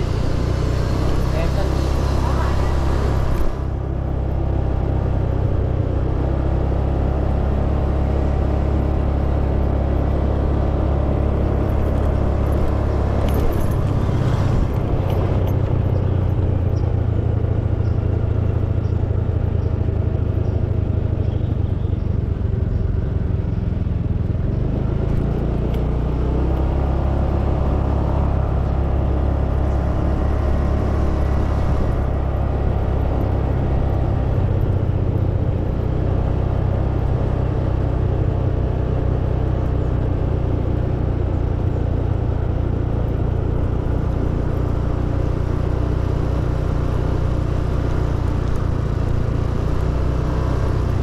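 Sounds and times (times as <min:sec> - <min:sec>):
motor scooter engine running: 0:00.0 - 0:51.0
wind and road rumble: 0:00.0 - 0:51.0.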